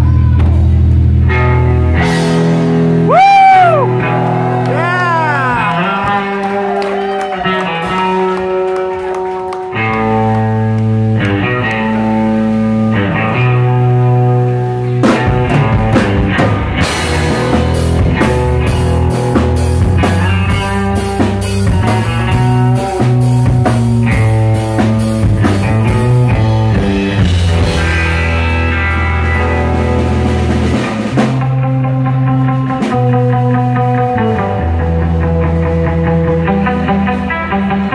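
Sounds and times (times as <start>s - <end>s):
bass guitar: 0.0s - 37.9s
drum kit: 0.0s - 37.9s
electric guitar: 0.0s - 37.9s.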